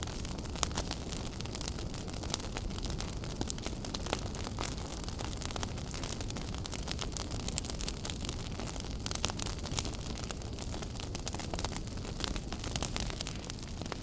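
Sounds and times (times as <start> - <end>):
fire crackling and popping: 0.0 - 14.0
fire flames rumbling: 0.0 - 14.0.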